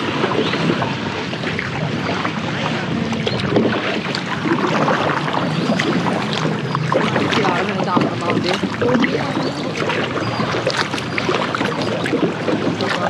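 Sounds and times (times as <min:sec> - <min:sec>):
water splashing around kayak: 0:00.0 - 0:13.0.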